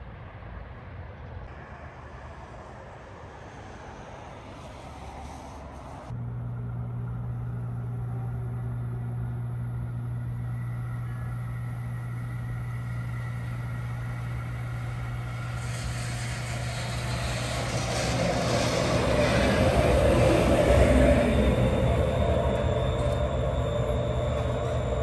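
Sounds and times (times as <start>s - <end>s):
light-rail train arriving: 0.0s - 25.0s
low hum: 0.5s - 25.0s.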